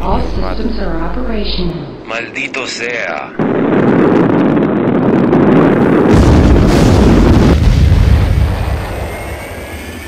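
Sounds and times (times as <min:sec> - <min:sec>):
rocket engine rumble: 0:00.0 - 0:10.0.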